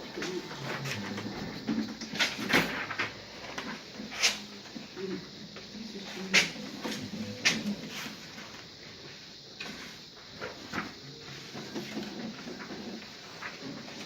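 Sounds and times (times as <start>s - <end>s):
faint low room murmur: 0.0s - 14.0s.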